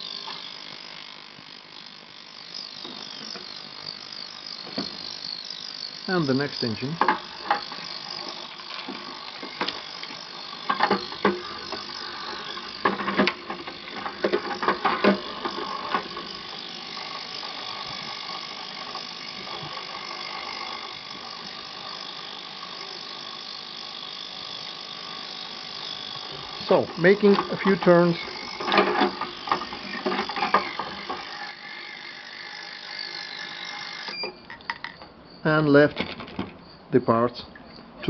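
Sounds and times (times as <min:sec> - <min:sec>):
steady hum with whining tones: 0:00.0 - 0:38.0.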